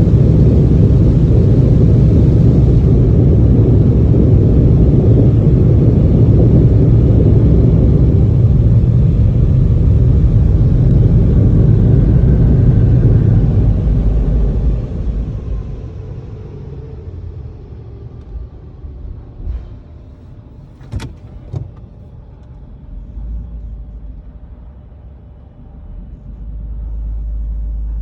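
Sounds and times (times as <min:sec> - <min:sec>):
car wash machinery rumbling: 0:00.0 - 0:24.0.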